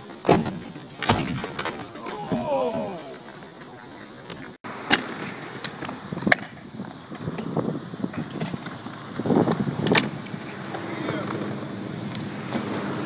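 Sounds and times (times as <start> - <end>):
skate wheels rolling on ramp: 0.0 - 13.0.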